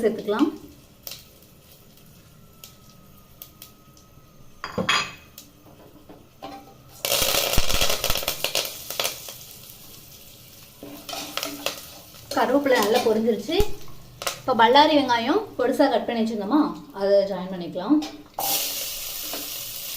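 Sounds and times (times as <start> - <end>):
leaves sizzling in hot oil: 0.0 - 19.9.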